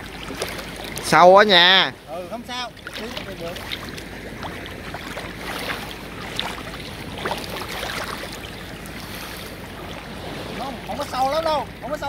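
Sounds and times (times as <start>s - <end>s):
low wind rumble: 0.0s - 12.0s
water sloshing and splashing: 0.0s - 12.0s.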